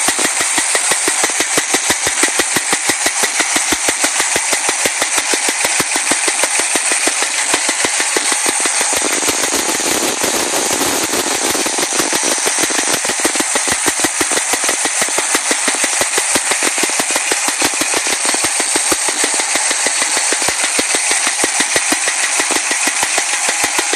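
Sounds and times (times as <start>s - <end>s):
car engine knocking: 0.0s - 23.9s.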